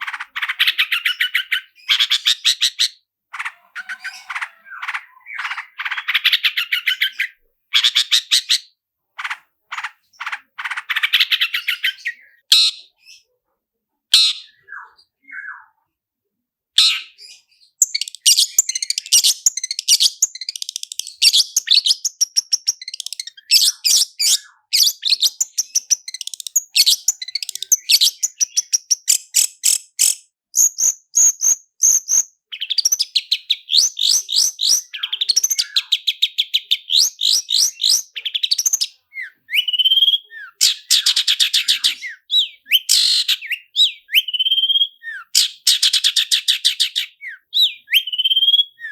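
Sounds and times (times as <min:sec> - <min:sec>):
bird singing rolling trills: 0:00.0 - 0:08.6, 0:17.3 - 0:29.1, 0:30.0 - 0:48.9.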